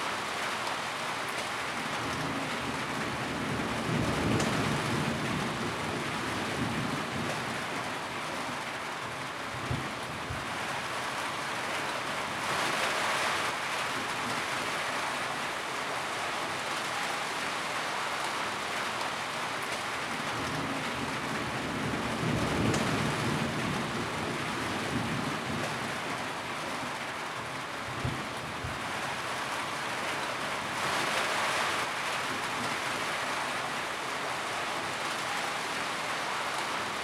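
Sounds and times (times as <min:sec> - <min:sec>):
rain drumming on a tin roof: 0:00.0 - 0:37.0.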